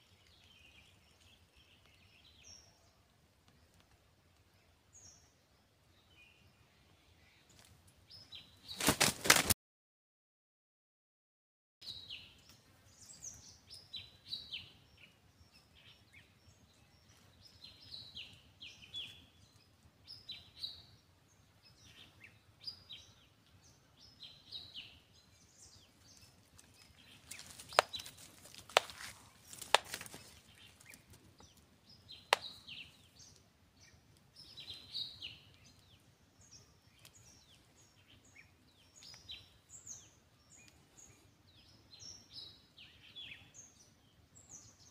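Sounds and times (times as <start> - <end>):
small birds chirping: 0.0 - 9.4, 11.8 - 44.9.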